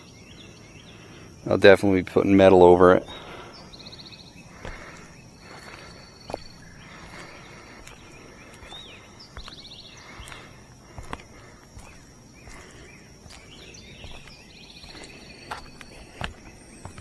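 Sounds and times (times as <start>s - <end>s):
bird or insect chirps: 0.0s - 17.0s
high-pitched insect drone: 0.0s - 17.0s.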